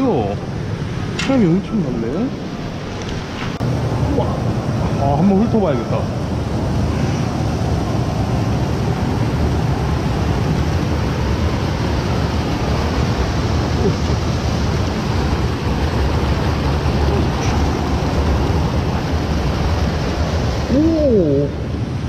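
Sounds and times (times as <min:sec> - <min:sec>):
water rushing over a weir: 0:00.0 - 0:22.0.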